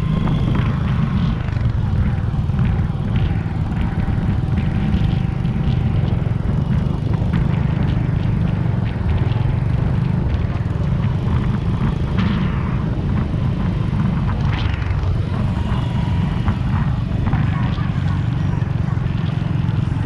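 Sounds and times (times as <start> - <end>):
small motorcycle engines rumbling: 0.0 - 20.0.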